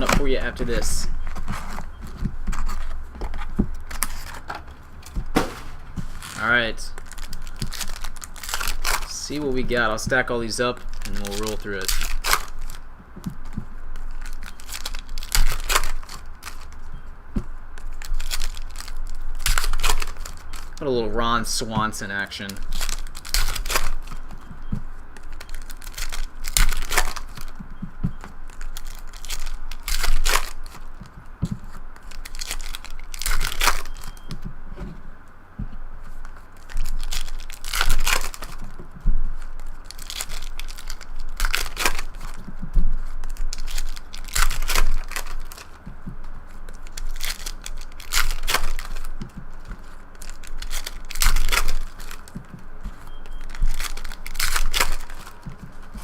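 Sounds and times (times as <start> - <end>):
foil wrappers tearing and crumpling: 0.0 - 1.1, 2.5 - 4.4, 5.4 - 16.9, 17.8 - 24.4, 25.2 - 27.6, 28.4 - 30.9, 31.6 - 34.2, 36.2 - 38.8, 39.4 - 45.8, 46.4 - 56.0.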